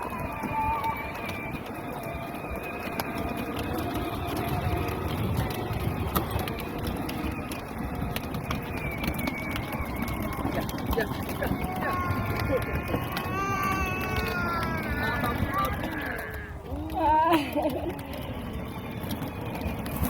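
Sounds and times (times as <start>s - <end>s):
plastic wheels rumbling: 0.0s - 20.0s.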